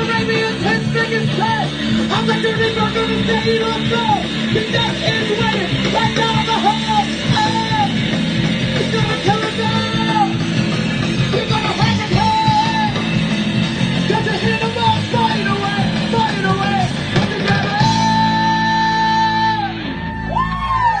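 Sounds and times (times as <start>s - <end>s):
punk rock band playing: 0.0s - 21.0s
singer singing and yelling: 0.0s - 21.0s.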